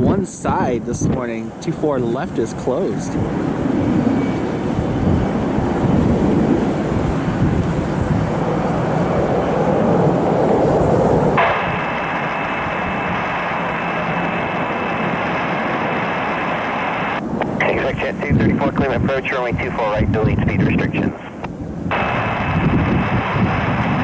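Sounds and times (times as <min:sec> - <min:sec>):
faint high whine: 0:00.0 - 0:24.0
jet engine rushing: 0:00.0 - 0:24.0.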